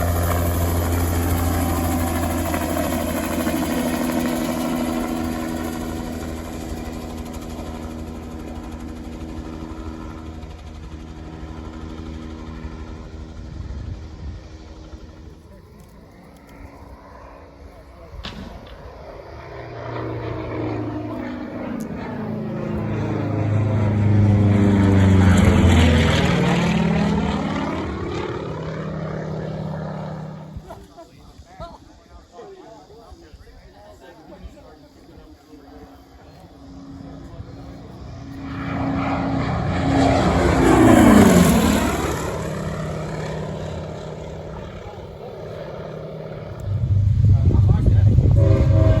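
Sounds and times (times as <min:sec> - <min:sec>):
light aircraft passing by: 0:00.0 - 0:31.6, 0:32.8 - 0:49.0
small airplane piston engine: 0:00.0 - 0:49.0.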